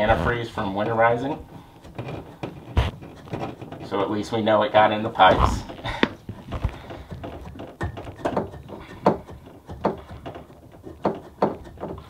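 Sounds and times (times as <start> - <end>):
pipe fittings clicking and knocking: 0.0 - 12.0.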